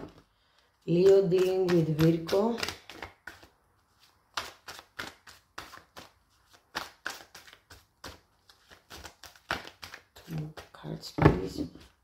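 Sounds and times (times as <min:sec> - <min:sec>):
cards being shuffled: 0:00.5 - 0:11.0.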